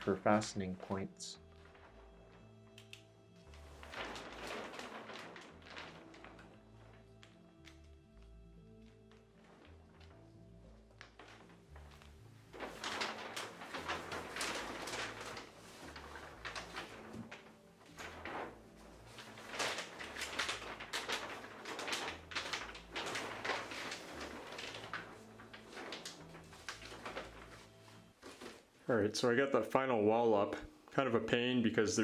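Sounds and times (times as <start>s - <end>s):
plastic sheeting rustling: 0.0s - 29.3s
faint background music: 0.0s - 32.0s.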